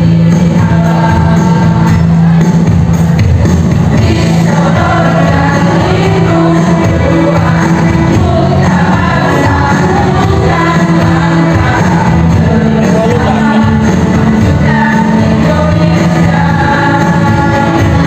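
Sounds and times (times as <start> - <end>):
women's choir singing: 0.0 - 2.6, 3.9 - 18.0.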